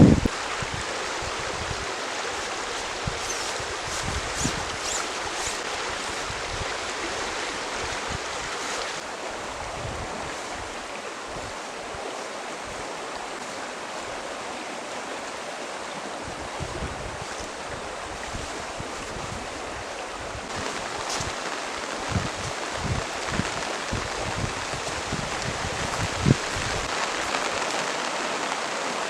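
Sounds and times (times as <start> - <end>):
stream flowing: 0.0 - 29.0.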